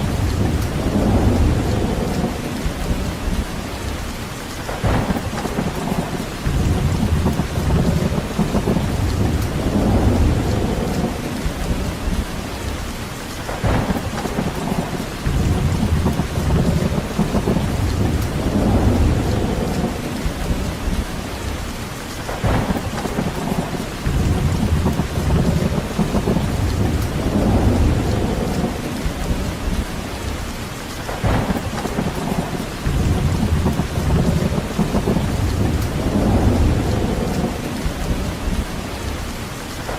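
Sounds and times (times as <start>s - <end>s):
deep rumble: 0.0s - 4.0s, 4.8s - 12.8s, 13.6s - 21.6s, 22.4s - 30.4s, 31.2s - 39.1s
heavy rain: 0.0s - 39.9s.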